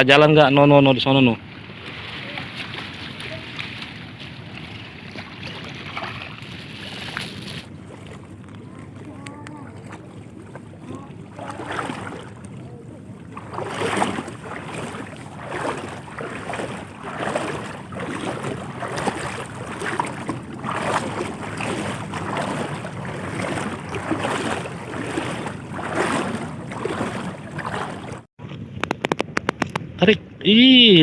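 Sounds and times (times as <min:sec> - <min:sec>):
water noise: 0:00.6 - 0:29.8.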